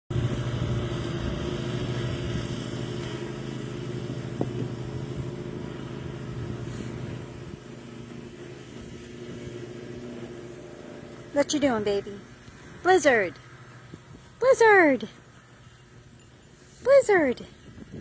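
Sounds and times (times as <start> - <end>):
motor hum: 0.1 - 18.0.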